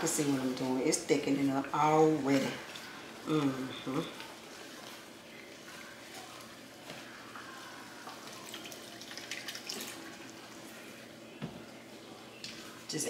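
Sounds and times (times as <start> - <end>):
fan hum: 0.0 - 13.0
gravy simmering and stirred: 0.0 - 13.0.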